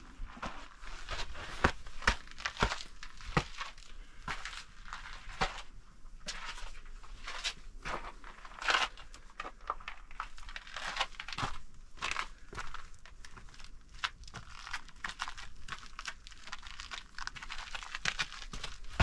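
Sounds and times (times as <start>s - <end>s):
footsteps crunching on gravel: 0.2s - 19.0s.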